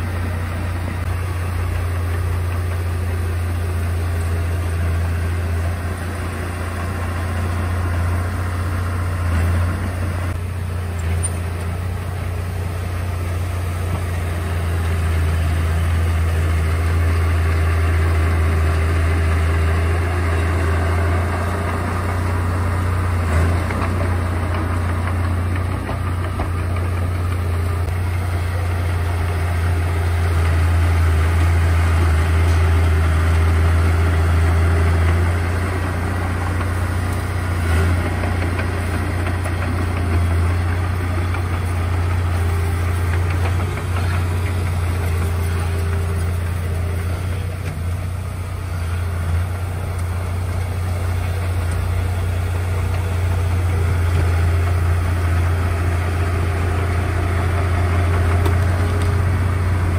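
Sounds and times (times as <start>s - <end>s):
bulldozer diesel engine humming: 0.0s - 59.9s.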